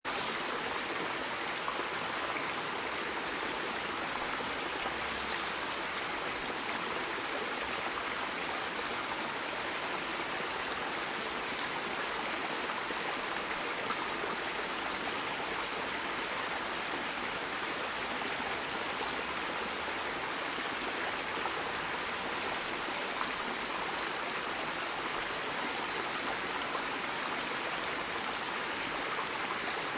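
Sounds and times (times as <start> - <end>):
stream of running water: 0.0 - 29.9.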